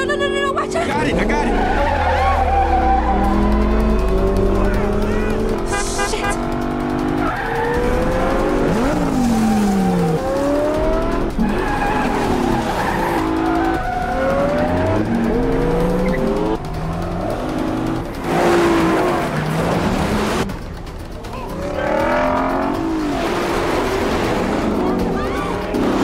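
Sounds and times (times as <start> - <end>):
sports car engines revving: 0.0 - 20.8, 21.4 - 26.0
tyres skidding: 0.0 - 26.0.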